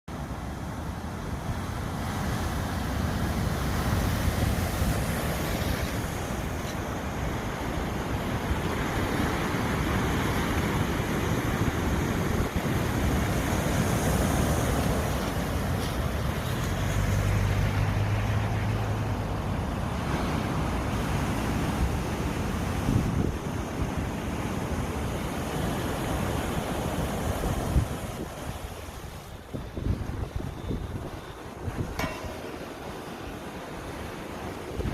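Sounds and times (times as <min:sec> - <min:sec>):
sea waves washing onto shore: 0:00.1 - 0:34.9
wind buffeting microphone: 0:01.2 - 0:34.9.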